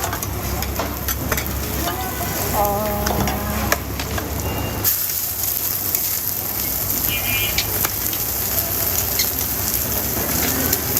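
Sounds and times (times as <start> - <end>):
food sizzling: 0.0 - 10.9.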